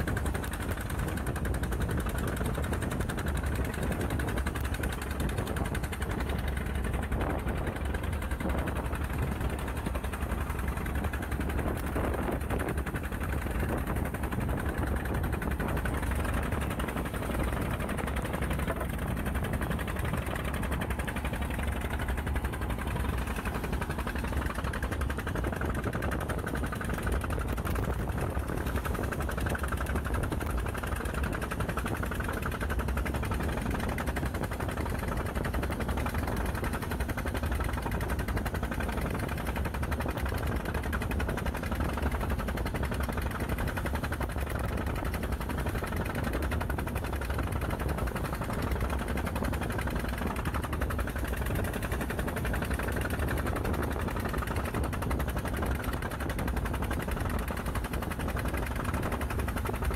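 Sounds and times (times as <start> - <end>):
boat engine low pulsing: 0.0 - 59.9
water rushing past hull: 0.0 - 59.9.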